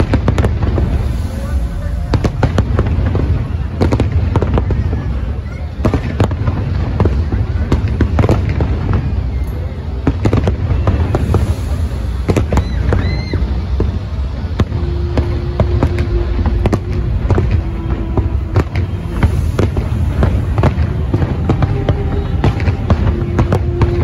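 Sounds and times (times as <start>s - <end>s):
fireworks bangs and crackles: 0.0s - 24.0s
low rumble: 0.0s - 24.0s.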